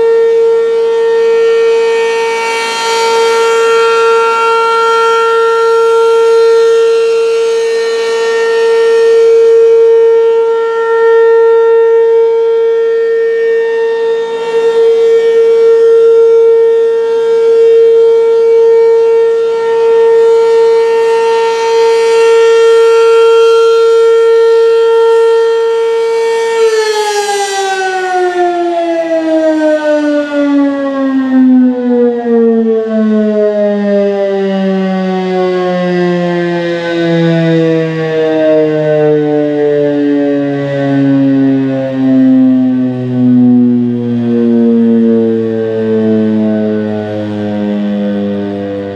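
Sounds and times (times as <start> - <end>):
rotating warning siren: 0.0 - 48.9.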